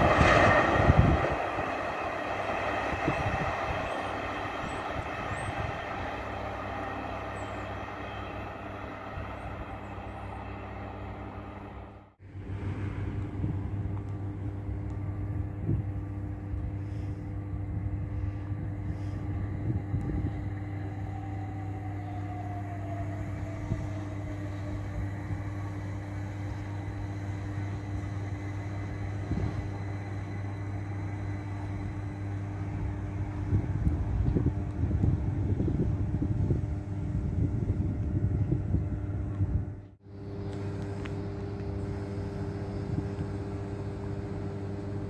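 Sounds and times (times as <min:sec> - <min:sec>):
electric train approaching: 0:00.0 - 0:45.0.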